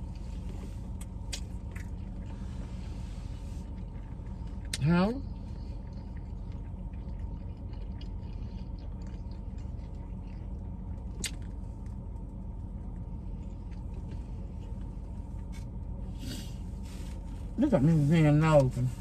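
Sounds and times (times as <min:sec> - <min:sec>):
low rumble inside a car: 0:00.0 - 0:19.0
soft chewing: 0:00.0 - 0:19.0.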